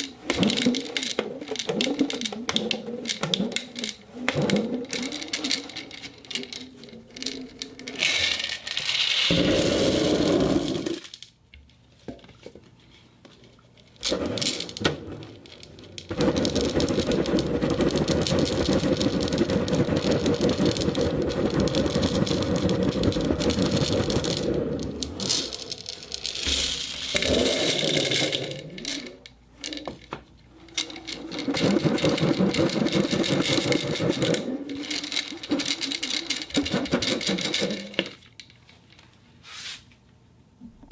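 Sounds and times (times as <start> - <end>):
ceramic balls clattering: 0.0 - 11.3, 13.9 - 38.9.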